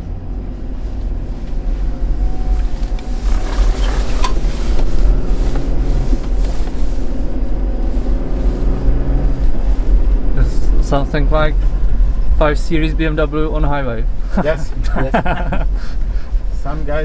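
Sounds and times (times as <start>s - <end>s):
car engine rumbling from cabin: 0.0s - 17.0s.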